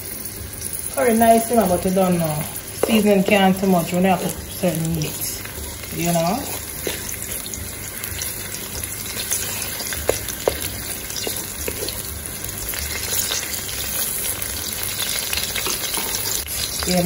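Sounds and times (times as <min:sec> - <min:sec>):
scallions sizzling in hot oil: 0:00.0 - 0:17.0
wooden spoon stirring in a pot: 0:00.6 - 0:17.0.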